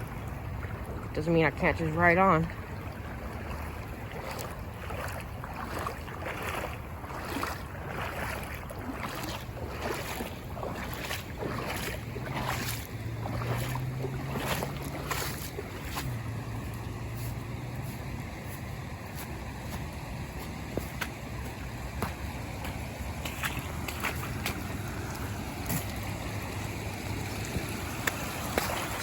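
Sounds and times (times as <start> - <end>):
boots sloshing through water: 0.0 - 29.0.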